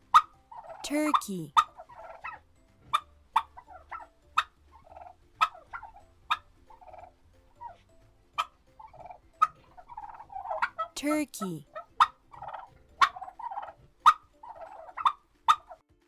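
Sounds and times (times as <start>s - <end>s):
turkey gobbling: 0.0s - 0.8s, 1.5s - 11.0s, 11.7s - 15.8s.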